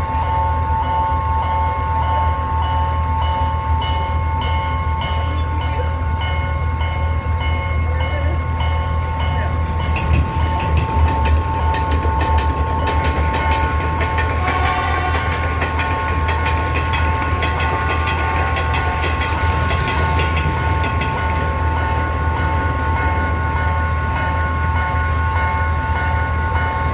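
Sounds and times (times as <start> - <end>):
train rumble: 0.0 - 26.9
train wheels clacking: 0.0 - 26.9.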